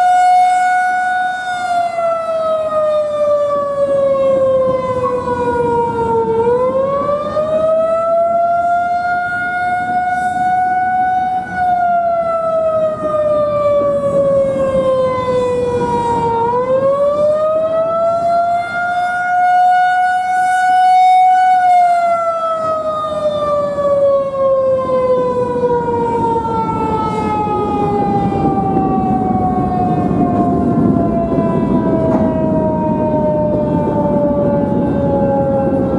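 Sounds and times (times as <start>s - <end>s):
warning siren wailing: 0.0s - 35.9s.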